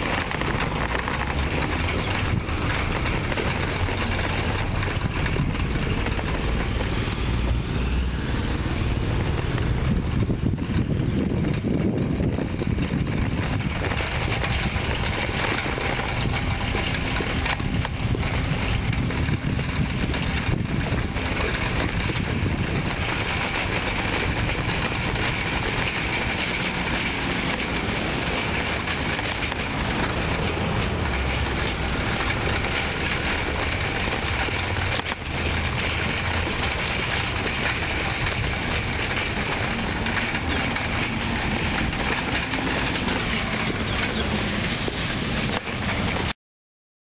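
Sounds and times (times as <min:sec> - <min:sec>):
shopping cart rattling on asphalt: 0:00.0 - 0:46.4.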